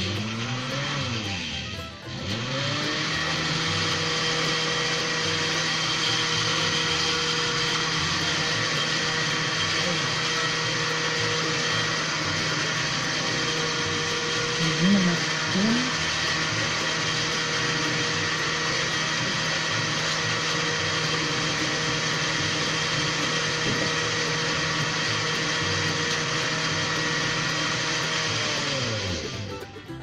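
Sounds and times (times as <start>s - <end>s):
blender motor whine: 0.0s - 29.5s.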